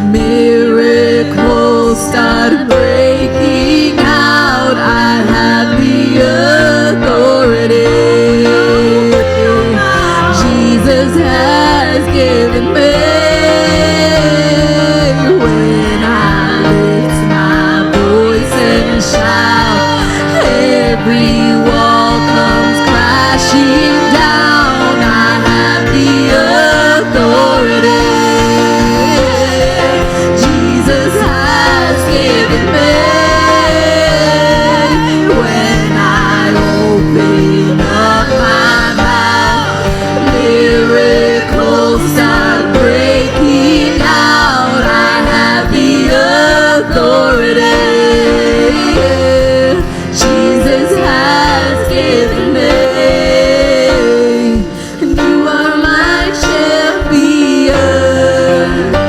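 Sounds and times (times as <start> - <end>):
band playing chords and bass: 0.0 - 59.0
gospel singers: 0.0 - 59.0.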